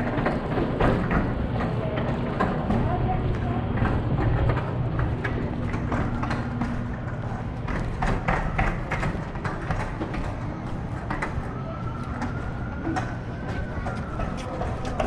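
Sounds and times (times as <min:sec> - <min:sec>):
city street traffic rumble: 0:00.0 - 0:15.0
footsteps on concrete sidewalk: 0:00.0 - 0:15.0.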